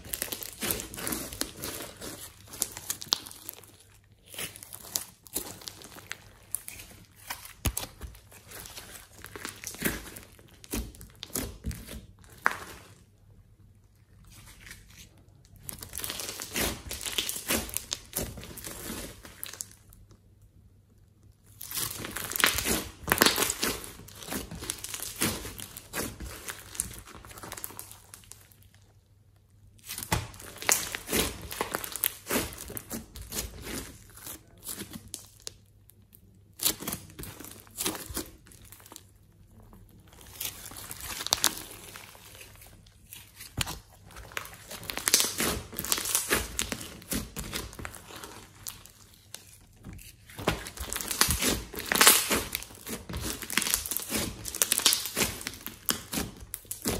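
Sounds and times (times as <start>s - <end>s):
slime squelching and tearing: 0.0s - 56.9s.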